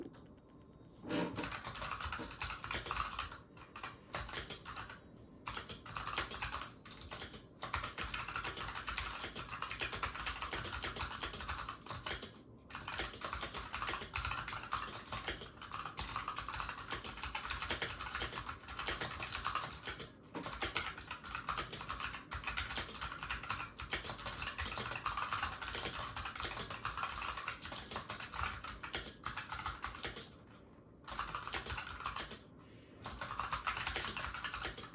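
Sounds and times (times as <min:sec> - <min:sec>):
fast keyboard typing clicks: 0:01.4 - 0:30.4, 0:31.0 - 0:32.4, 0:33.0 - 0:34.9.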